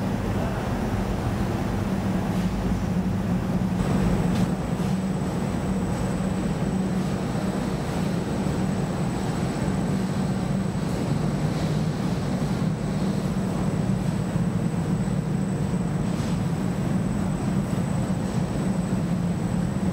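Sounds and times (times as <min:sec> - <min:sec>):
washing machine drone: 0:00.0 - 0:19.9.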